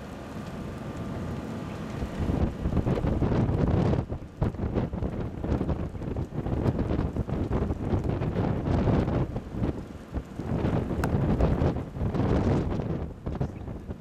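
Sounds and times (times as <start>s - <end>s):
gusty wind on microphone: 2.0s - 14.0s.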